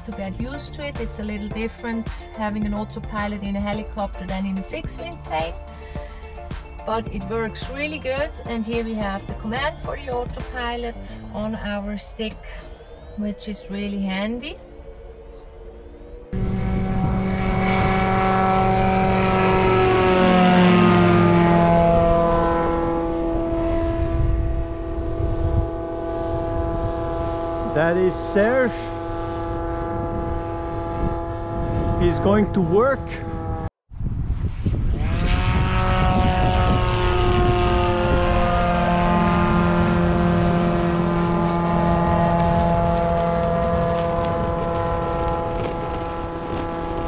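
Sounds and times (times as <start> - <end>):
propeller aircraft engine drone: 0.0 - 47.0.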